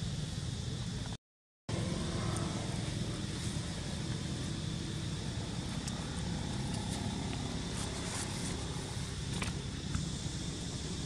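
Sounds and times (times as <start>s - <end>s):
outdoor background rumble and hiss: 0.0s - 11.0s.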